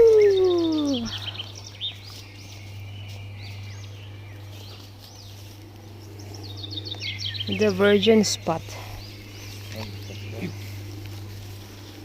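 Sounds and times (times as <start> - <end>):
low background hum: 0.0 - 12.0
small birds chirping: 0.0 - 12.0.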